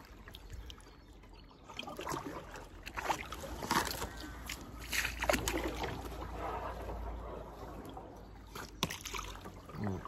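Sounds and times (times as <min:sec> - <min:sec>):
paddle dipping into water: 0:00.0 - 0:10.0
water splashing and dripping: 0:00.0 - 0:10.0.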